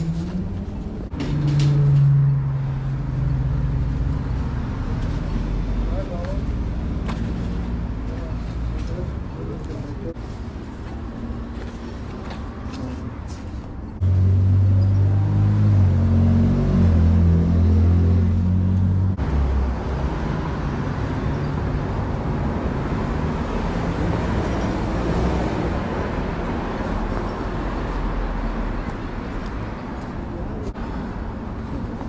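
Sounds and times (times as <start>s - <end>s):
passing traffic: 0.0s - 32.0s.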